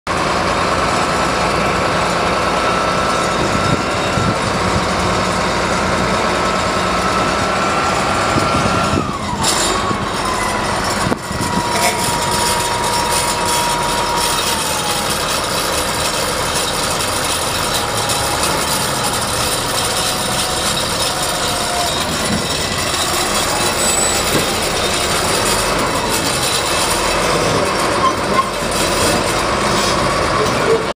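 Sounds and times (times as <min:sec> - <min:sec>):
bulldozer diesel engine whining: 0:00.1 - 0:30.9.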